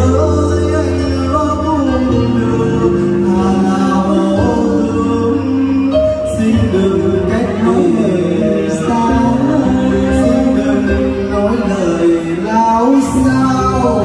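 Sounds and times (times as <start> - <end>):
person singing: 0.0 - 14.0
pop backing music with bass: 0.0 - 14.0.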